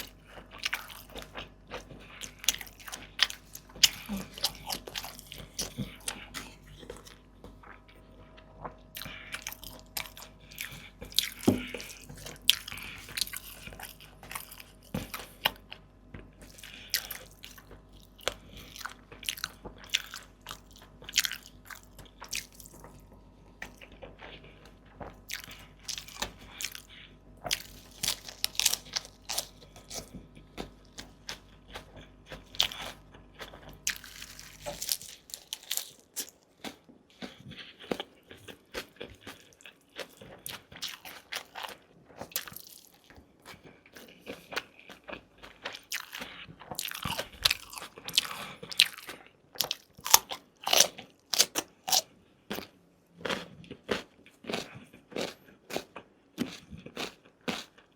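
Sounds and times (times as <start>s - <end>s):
crunchy chewing: 0.0s - 57.9s.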